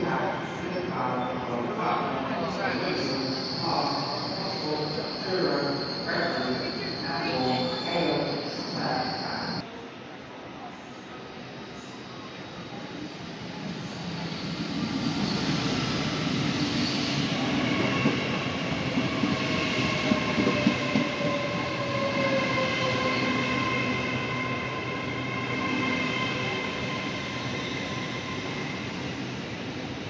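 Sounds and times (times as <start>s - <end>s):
train whine passing: 0.0s - 9.8s, 11.1s - 30.0s.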